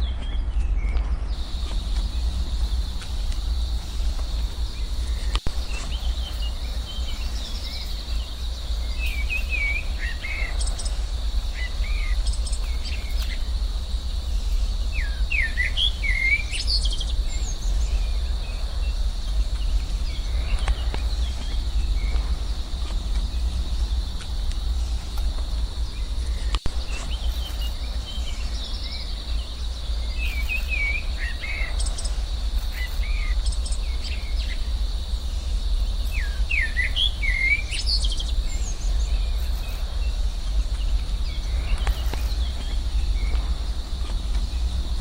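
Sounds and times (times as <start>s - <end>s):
birds chirping: 0.0s - 45.0s
low rumble: 0.0s - 45.0s
high insect drone: 1.3s - 45.0s.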